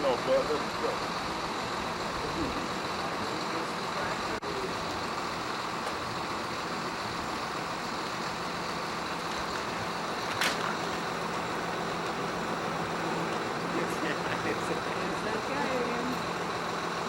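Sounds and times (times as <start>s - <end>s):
road traffic rushing past: 0.0s - 17.0s.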